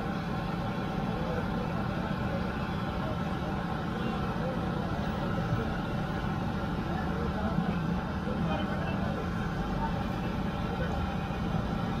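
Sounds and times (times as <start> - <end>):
murmur of voices: 0.0 - 12.0.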